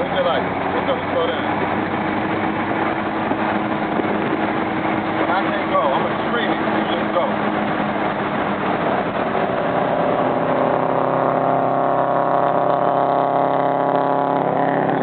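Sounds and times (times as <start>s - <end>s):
car engine at high speed: 0.0s - 15.0s
road and wind noise: 0.0s - 15.0s.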